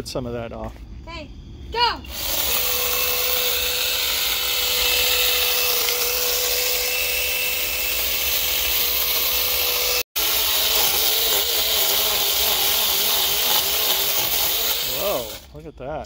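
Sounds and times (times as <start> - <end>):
mini chainsaw motor whine: 2.1 - 15.5.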